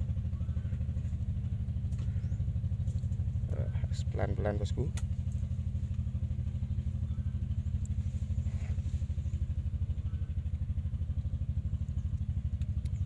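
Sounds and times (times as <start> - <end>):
engine chugging steadily: 0.0 - 13.0.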